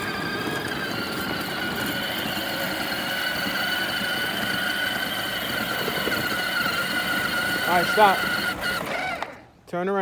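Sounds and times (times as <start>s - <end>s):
tires rolling on pavement: 0.0s - 9.4s
electric motors whining: 0.0s - 9.5s.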